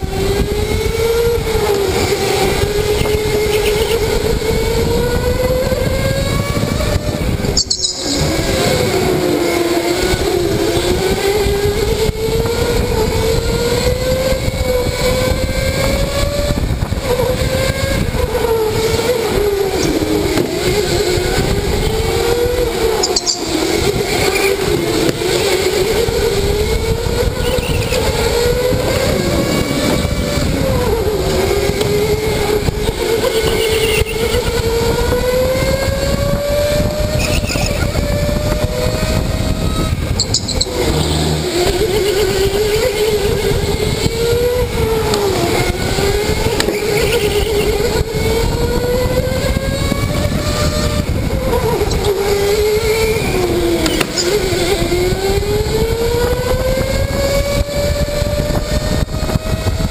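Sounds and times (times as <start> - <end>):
electric go-kart motor whining: 0.0 - 59.9
rumble of tyres and chassis: 0.0 - 59.9.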